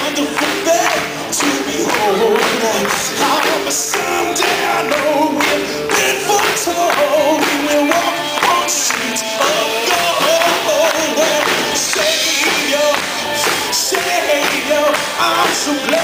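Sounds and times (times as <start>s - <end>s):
gospel song: 0.0s - 16.0s.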